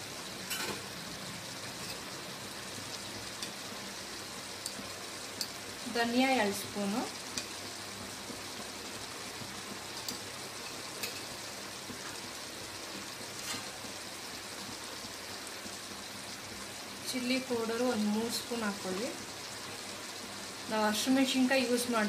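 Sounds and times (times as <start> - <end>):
gravy sizzling in a pot: 0.0 - 22.0.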